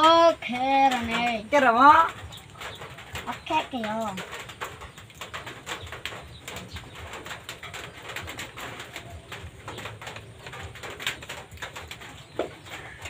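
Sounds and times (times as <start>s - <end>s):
pigeons cooing: 0.9s - 13.0s.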